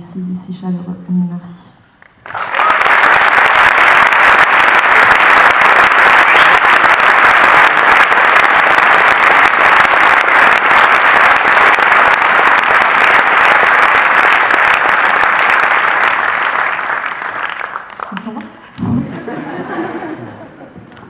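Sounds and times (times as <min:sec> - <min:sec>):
audience applauding: 0:02.2 - 0:20.2.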